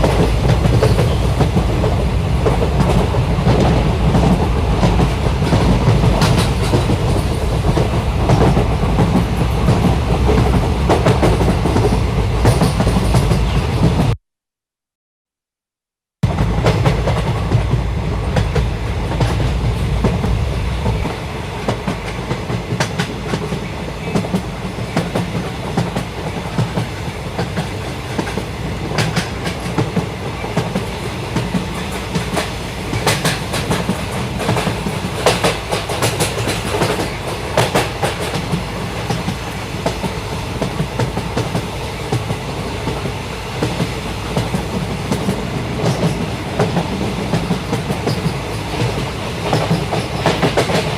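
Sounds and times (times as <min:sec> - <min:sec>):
train wheels rumbling on rails: 0:00.0 - 0:14.2, 0:16.2 - 0:50.9
wheels clickety-clack on rail joints: 0:00.0 - 0:14.2, 0:16.3 - 0:50.9.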